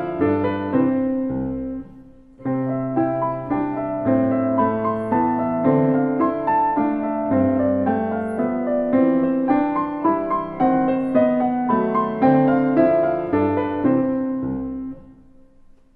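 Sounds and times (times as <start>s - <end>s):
digital pianos playing children's tune: 0.0s - 15.2s.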